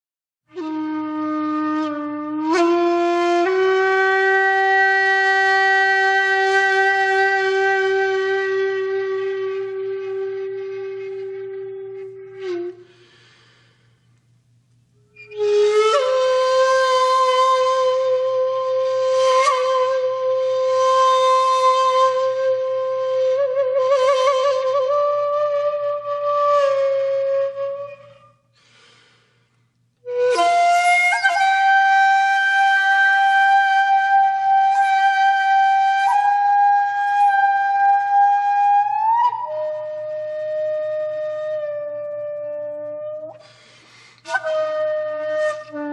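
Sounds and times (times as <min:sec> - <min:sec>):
flute-like wind instrument: 0:00.5 - 0:13.8, 0:15.0 - 0:28.5, 0:30.0 - 0:45.9.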